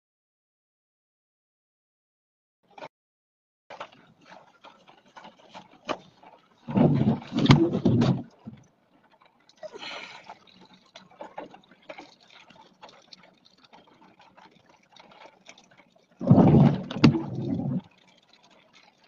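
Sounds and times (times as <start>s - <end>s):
rain ticking on car: 3.7s - 19.0s.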